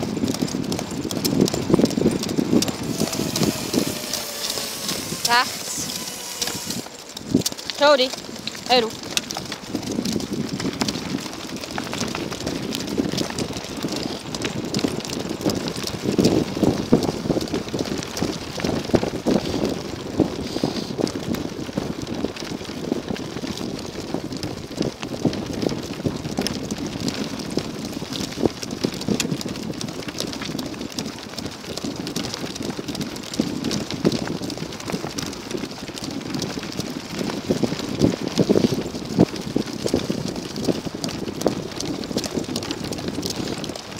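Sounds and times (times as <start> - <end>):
cart wheels on gravel: 0.0 - 43.9.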